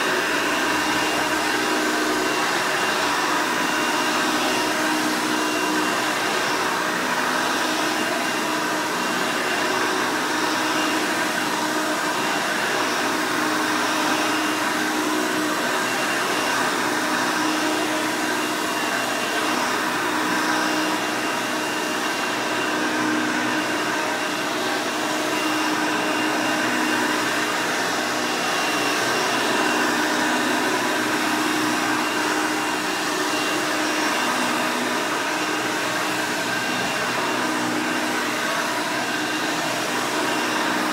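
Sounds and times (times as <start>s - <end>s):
vacuum cleaner motor running: 0.0s - 40.9s.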